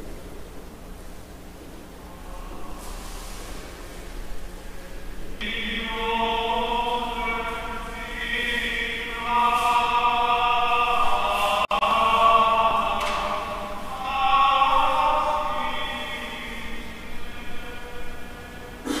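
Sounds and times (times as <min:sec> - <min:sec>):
voices singing slow chant: 0:02.0 - 0:19.0.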